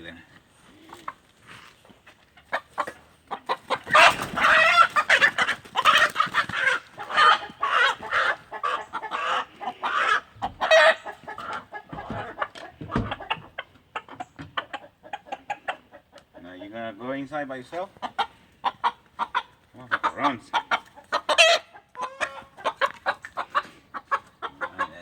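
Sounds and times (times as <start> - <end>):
chicken squawking and clucking: 0.6 - 1.3, 2.3 - 16.8, 17.9 - 25.0.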